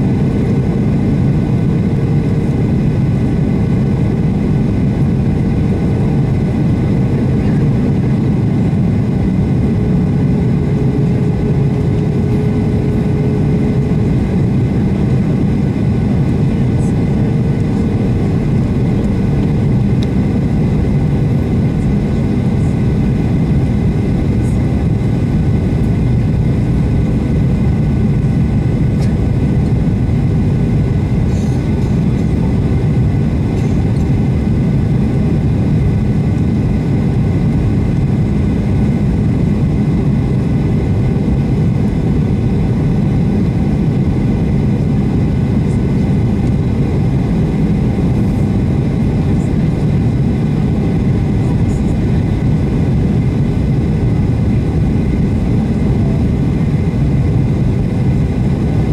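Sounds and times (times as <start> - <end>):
airplane cabin roar: 0.0 - 58.9
faint steady engine whine: 0.0 - 58.9.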